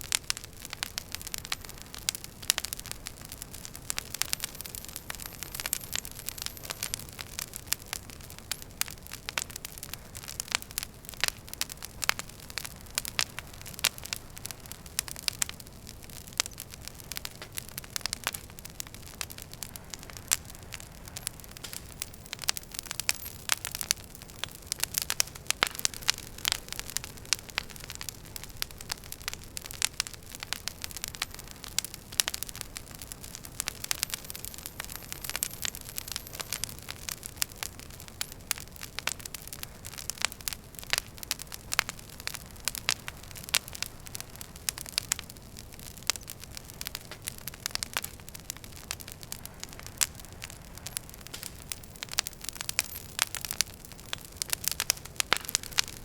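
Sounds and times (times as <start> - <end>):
burning logs popping and snapping: 0.0 - 56.0
low rumble of flames: 0.0 - 56.0.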